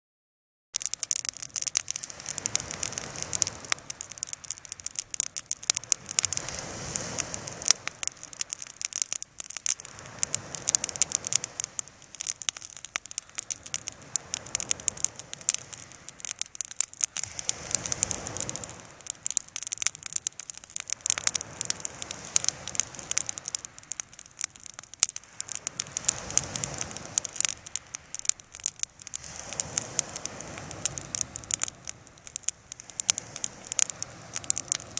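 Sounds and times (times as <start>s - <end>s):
bonfire crackling: 0.7s - 34.9s.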